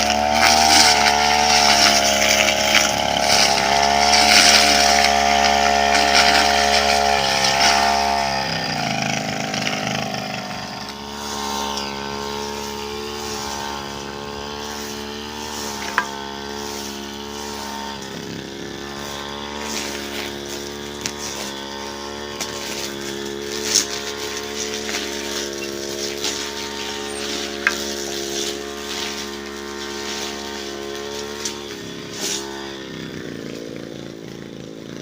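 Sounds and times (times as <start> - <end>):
brush cutter engine running: 0.0 - 35.0.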